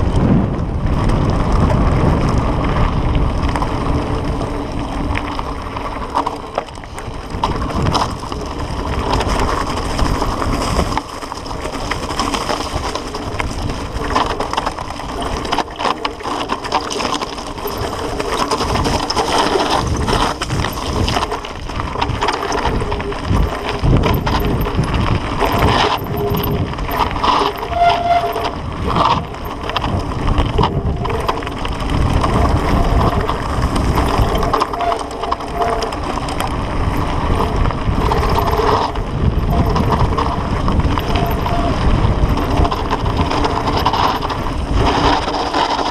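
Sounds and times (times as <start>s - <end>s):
bike rattling and knocking: 0.0s - 45.9s
tyres crunching over stones: 0.9s - 45.9s.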